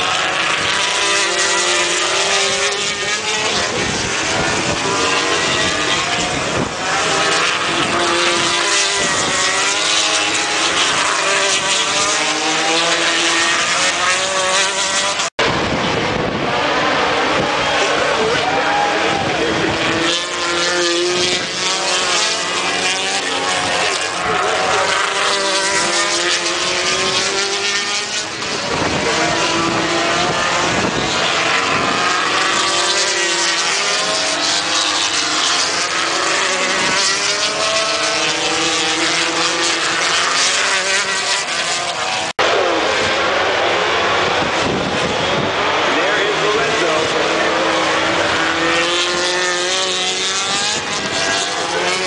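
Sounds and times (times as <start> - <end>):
racing motorcycle engines revving: 0.0 - 52.0.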